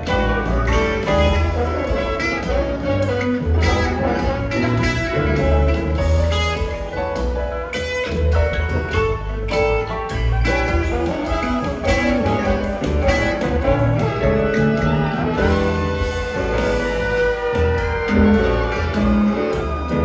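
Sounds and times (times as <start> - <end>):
bass line: 0.0 - 20.0
drums: 0.0 - 20.0
rock guitar lines: 0.0 - 20.0.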